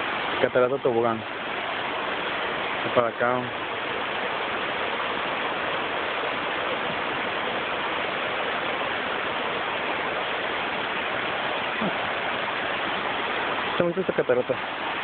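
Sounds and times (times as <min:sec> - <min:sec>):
river rushing down rock slab: 0:00.0 - 0:15.0.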